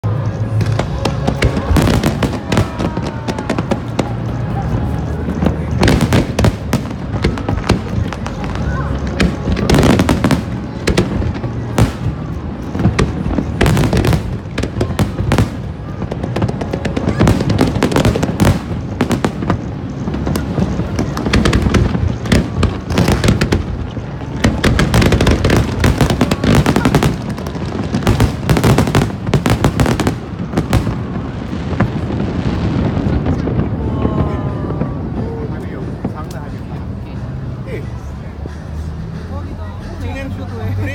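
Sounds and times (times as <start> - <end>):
fireworks bursting: 0.0 - 37.0.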